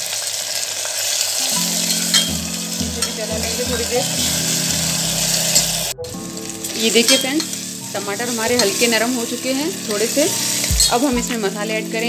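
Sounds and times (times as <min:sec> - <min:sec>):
tomatoes sizzling in hot oil: 0:00.0 - 0:12.0.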